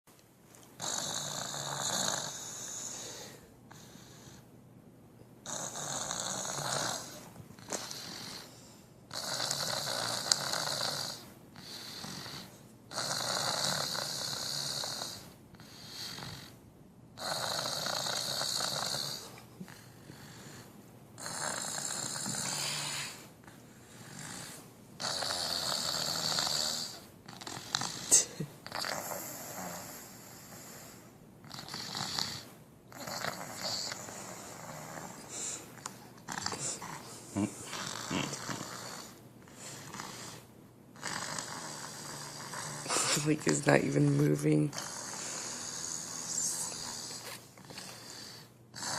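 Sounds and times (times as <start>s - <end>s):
quiet breaths: 0.5s - 48.9s
loud snoring: 0.8s - 4.4s, 5.4s - 16.6s, 17.2s - 20.6s, 21.2s - 43.6s, 44.7s - 48.9s.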